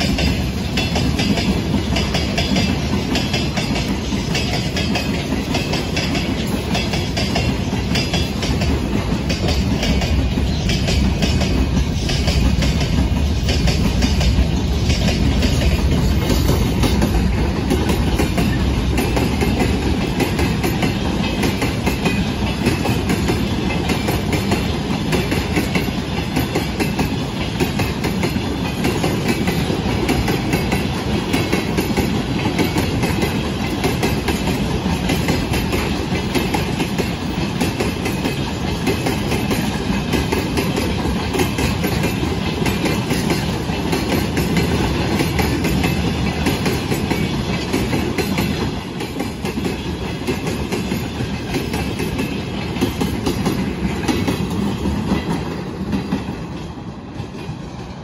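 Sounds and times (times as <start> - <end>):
clickety-clack over rail joints: 0.0 - 58.0
freight train wheels rumbling: 0.0 - 58.0.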